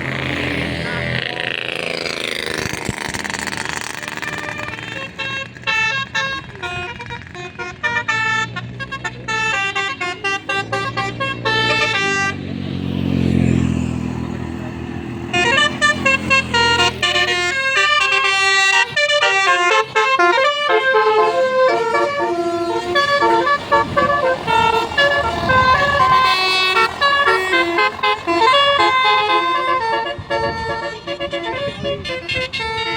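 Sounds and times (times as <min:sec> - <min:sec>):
bus engine rushing past: 0:00.0 - 0:32.9
bus horns playing melodic runs: 0:02.6 - 0:32.9.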